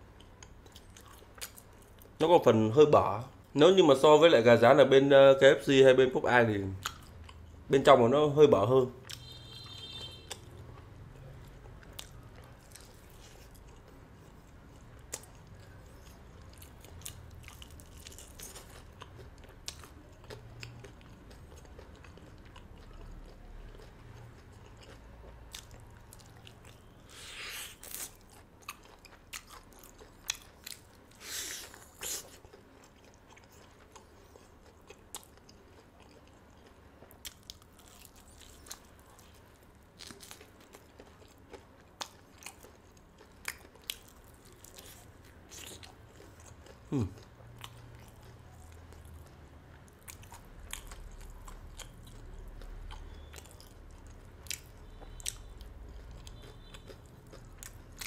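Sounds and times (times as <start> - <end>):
chewing crispy fried chicken: 0.1 - 2.3, 6.6 - 7.8, 8.9 - 58.0.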